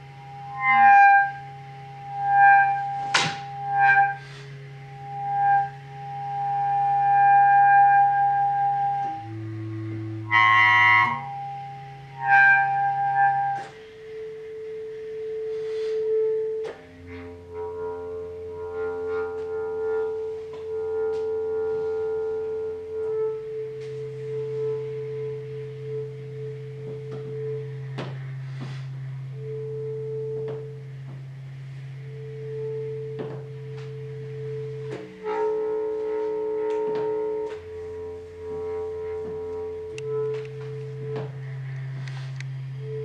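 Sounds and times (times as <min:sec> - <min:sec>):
bass clarinet long tones: 0:00.0 - 0:43.0.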